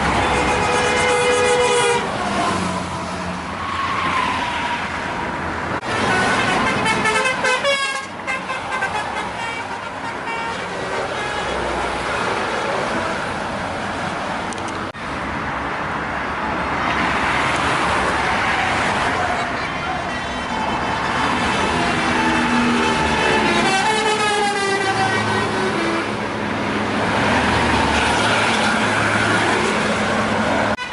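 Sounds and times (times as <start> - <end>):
road traffic: 0.0 - 30.9.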